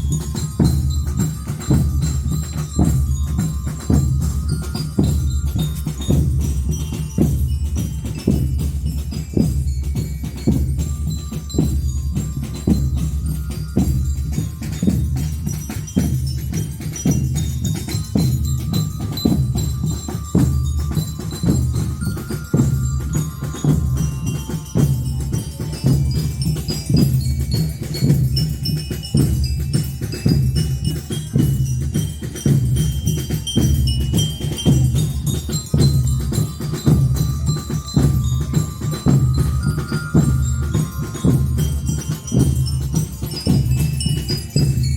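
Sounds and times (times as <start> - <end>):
bell lyres playing melody: 0.0 - 44.9
marching drum beat: 0.0 - 44.9.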